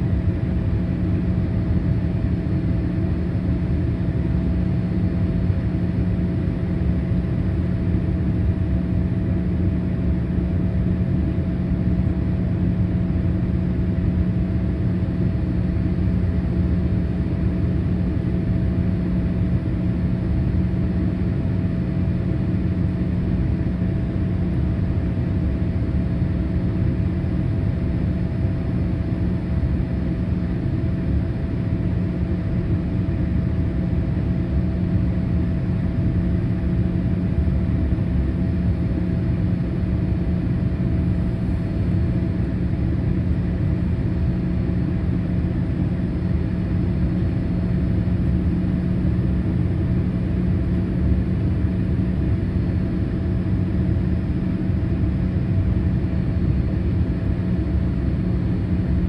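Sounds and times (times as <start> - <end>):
steady low hum: 0.0 - 59.0
airliner cabin engine rumble: 11.1 - 59.0.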